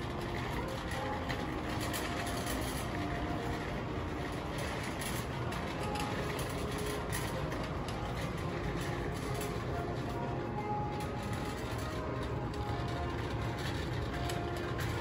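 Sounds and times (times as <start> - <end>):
low indoor store rumble: 0.0 - 15.0.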